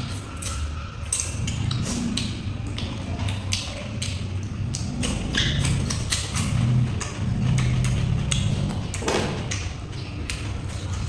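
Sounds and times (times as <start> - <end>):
low rumble: 0.0 - 11.0
wet chewing mouth sounds: 0.0 - 11.0.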